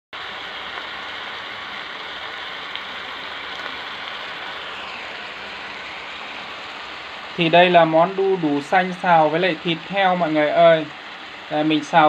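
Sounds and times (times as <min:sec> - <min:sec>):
stir-fry sizzling in a pan: 0:00.2 - 0:12.0.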